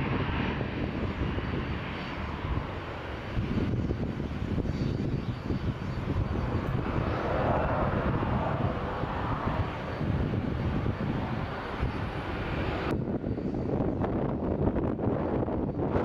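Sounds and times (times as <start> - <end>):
jet engines roaring: 0.0 - 16.0
wind rumble on microphone: 0.0 - 16.0.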